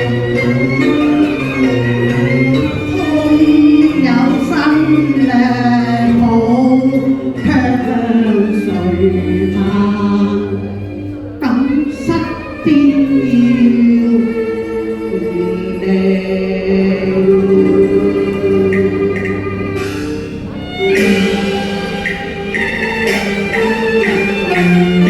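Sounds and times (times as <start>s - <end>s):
instrumental accompaniment: 0.0s - 25.0s
opera duet singing: 0.0s - 25.0s.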